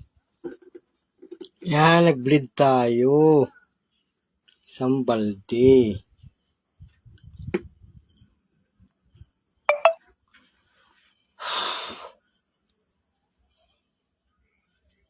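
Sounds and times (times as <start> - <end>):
cricket trill: 0.0 - 15.0.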